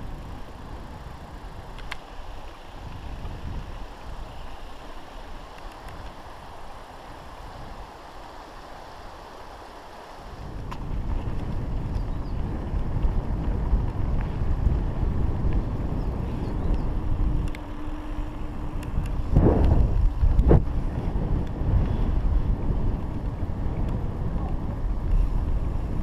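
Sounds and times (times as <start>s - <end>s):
wind buffeting microphone: 0.0s - 8.8s, 10.2s - 26.0s.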